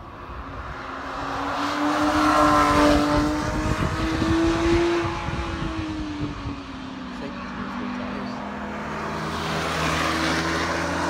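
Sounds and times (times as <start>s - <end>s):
race car passing at speed: 0.0s - 11.0s.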